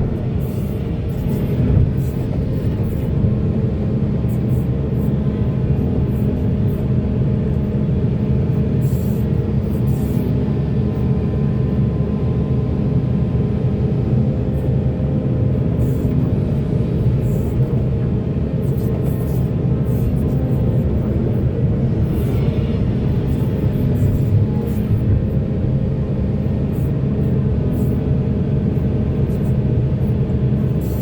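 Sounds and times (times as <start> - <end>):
diesel machinery running: 0.0 - 31.0.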